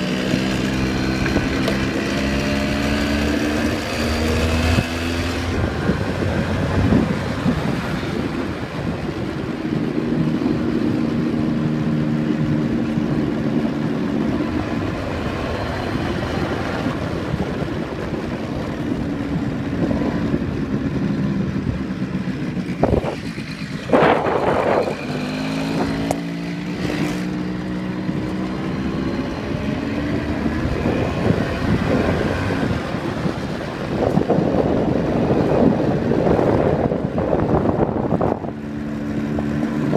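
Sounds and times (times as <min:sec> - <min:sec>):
scooter engine running: 0:00.0 - 0:39.9
wind on microphone: 0:00.0 - 0:39.9.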